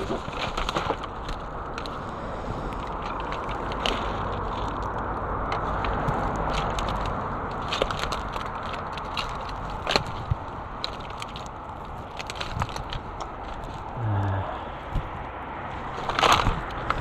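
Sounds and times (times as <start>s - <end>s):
plastic litter crackling: 0.0s - 17.0s.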